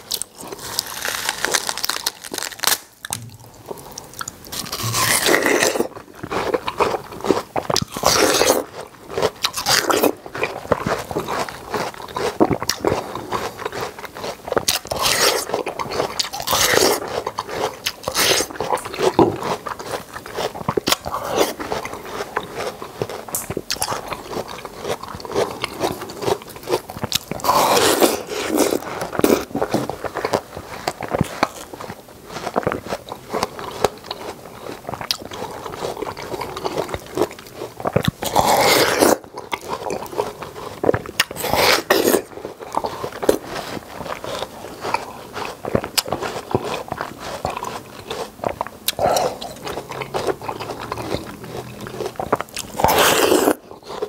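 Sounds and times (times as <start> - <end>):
wet biting and chewing watermelon: 0.0 - 54.0.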